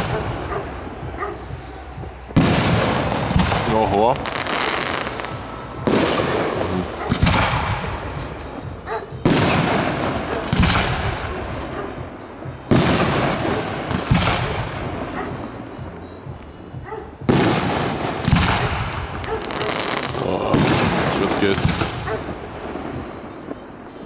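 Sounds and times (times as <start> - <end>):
firework shells bursting: 0.0 - 16.6, 17.3 - 24.0
crackling firework sparks: 0.0 - 24.0.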